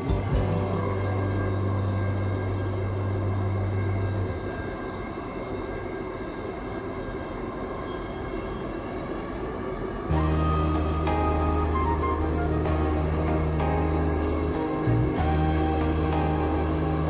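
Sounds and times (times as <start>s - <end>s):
faint high whines: 0.0s - 17.0s
low background music tone: 0.0s - 17.0s
metro train running: 0.0s - 17.0s.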